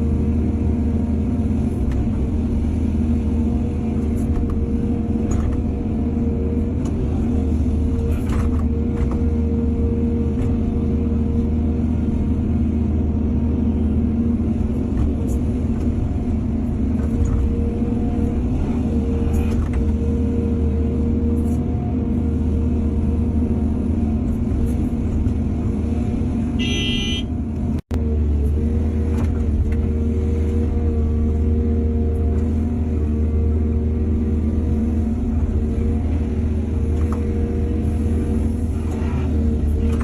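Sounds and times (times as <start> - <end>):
excavator diesel engine: 0.0 - 40.0.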